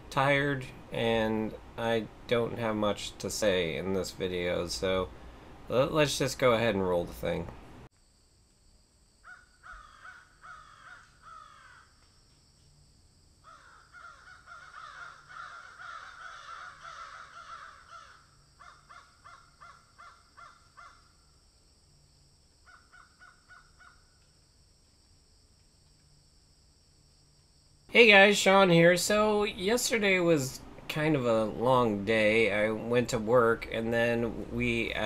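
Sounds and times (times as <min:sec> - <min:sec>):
low hum and hiss: 0:00.0 - 0:09.3, 0:12.0 - 0:35.0.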